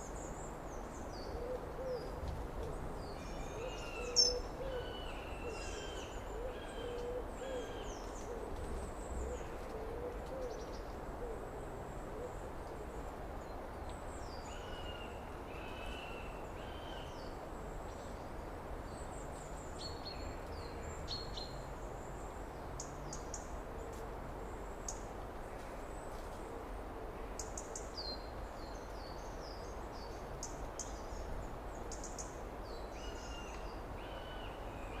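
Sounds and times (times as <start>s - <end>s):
steady background noise: 0.0s - 35.0s.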